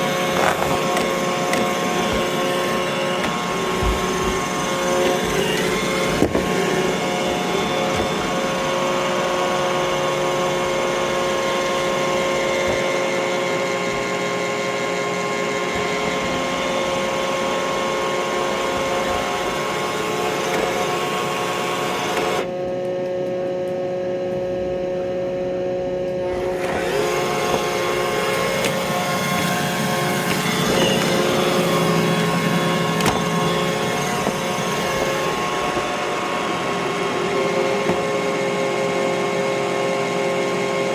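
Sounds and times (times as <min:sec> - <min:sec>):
robot vacuum motor whine: 0:00.0 - 0:40.9.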